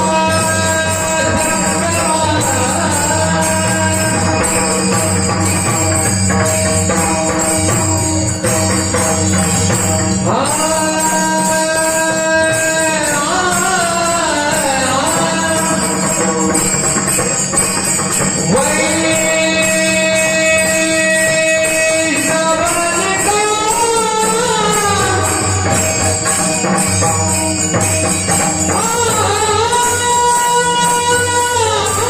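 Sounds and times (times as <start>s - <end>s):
held accompanying notes: 0.0s - 32.0s
jingling percussion: 0.0s - 32.0s.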